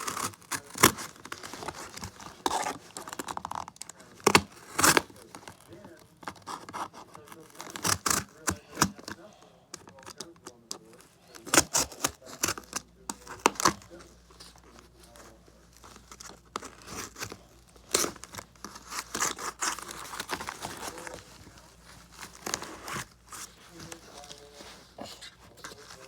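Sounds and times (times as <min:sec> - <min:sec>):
cardboard and tape crackling: 0:00.0 - 0:26.0.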